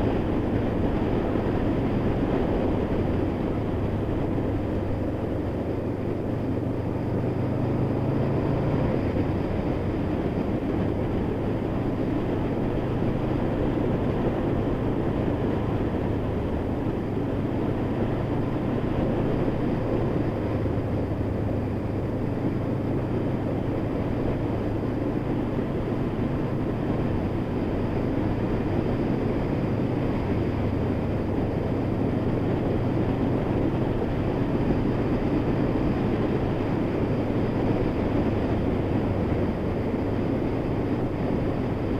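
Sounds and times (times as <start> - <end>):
motorcycle engine cruising: 0.0 - 41.9
rushing air and road noise: 0.0 - 41.9.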